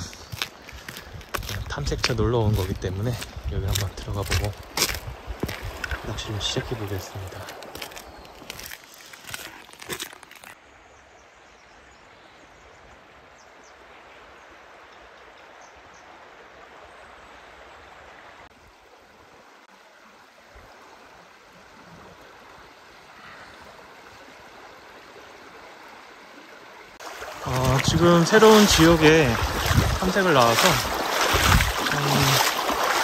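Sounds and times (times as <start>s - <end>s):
stream running over stones: 0.0s - 10.7s, 13.8s - 33.0s.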